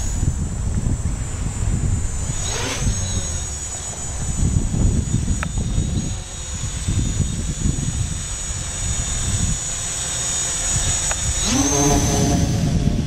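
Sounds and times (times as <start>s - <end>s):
quadcopter propellers whining: 0.0s - 13.0s
wind rumbling on microphone: 0.0s - 13.0s.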